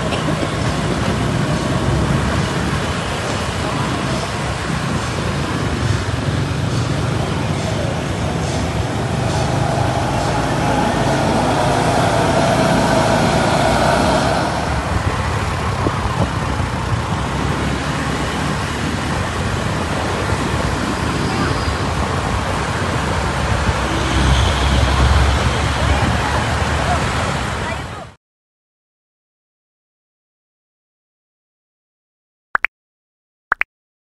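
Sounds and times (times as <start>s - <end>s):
vehicle passing: 0.0s - 28.0s
road traffic: 0.0s - 28.2s.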